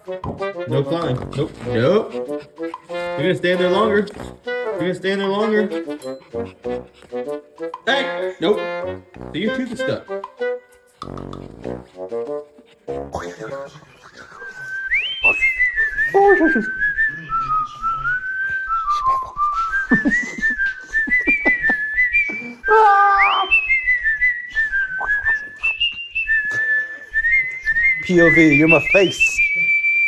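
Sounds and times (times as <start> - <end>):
whistled melody: 0.0 - 30.0.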